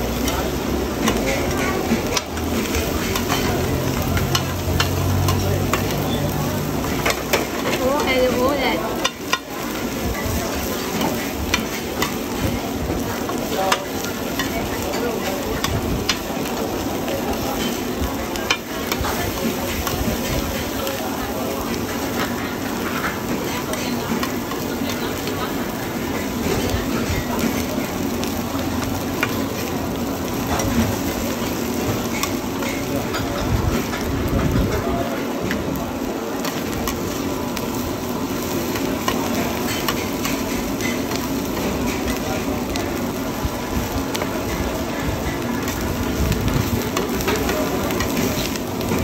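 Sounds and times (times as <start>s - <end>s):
omelette sizzling in oil: 0.0s - 49.0s.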